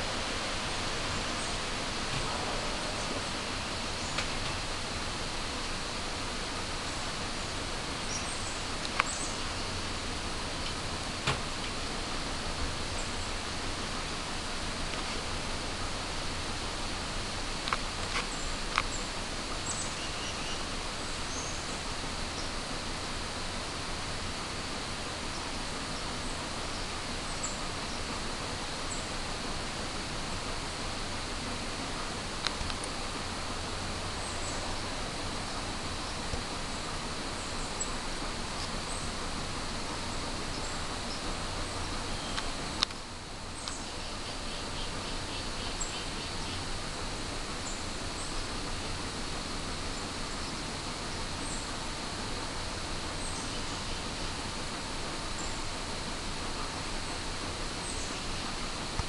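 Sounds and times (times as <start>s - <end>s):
faint insect drone: 0.0s - 59.0s
woodland hiss: 0.0s - 59.0s.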